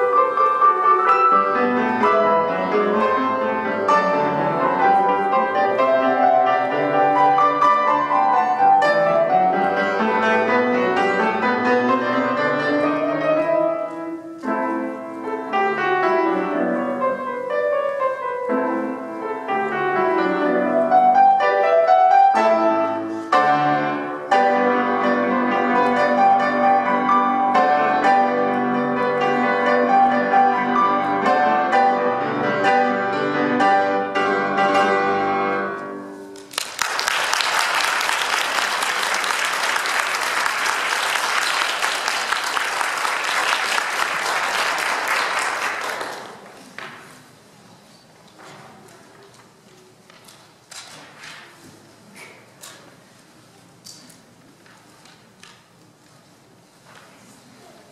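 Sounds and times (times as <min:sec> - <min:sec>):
piano duet: 0:00.0 - 0:49.2.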